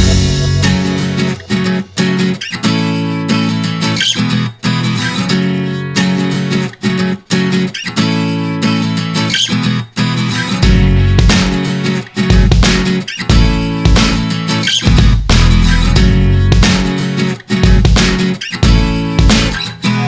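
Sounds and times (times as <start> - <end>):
strummed acoustic guitar music: 0.0 - 20.0.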